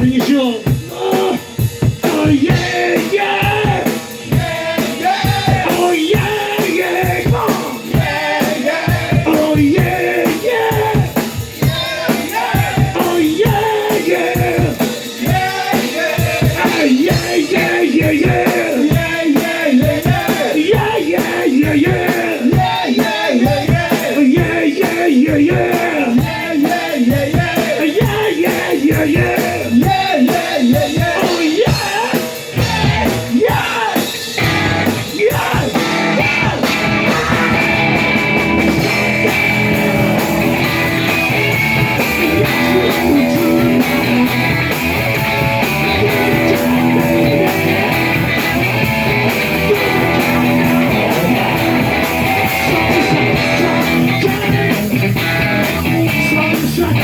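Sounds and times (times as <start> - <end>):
person singing: 0.0 - 57.0
rock band playing: 0.0 - 57.0.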